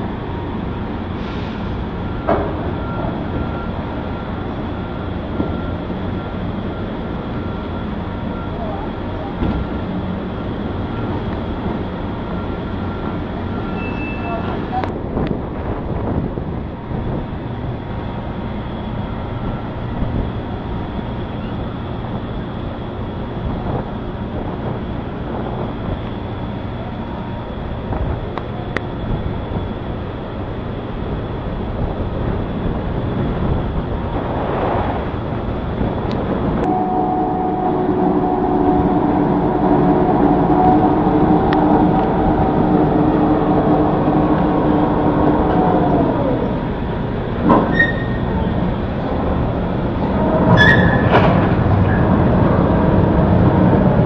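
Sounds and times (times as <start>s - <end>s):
multi-tone machine whine: 0.0s - 34.2s, 35.1s - 54.0s
cargo machinery noise: 0.0s - 54.0s.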